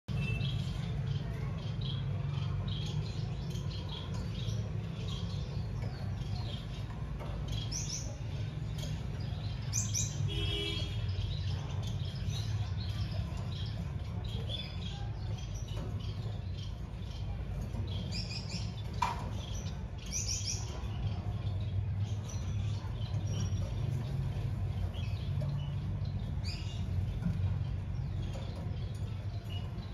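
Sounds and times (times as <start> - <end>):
finches chirping: 0.1 - 29.9.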